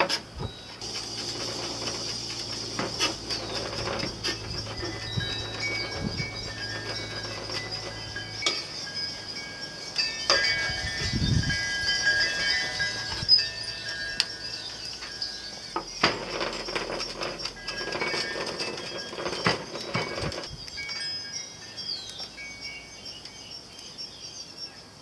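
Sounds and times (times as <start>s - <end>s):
high ringing tones: 0.4s - 24.8s.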